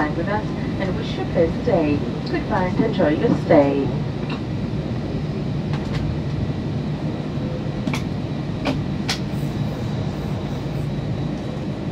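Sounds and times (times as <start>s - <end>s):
aircraft cabin rumble: 0.0s - 11.9s.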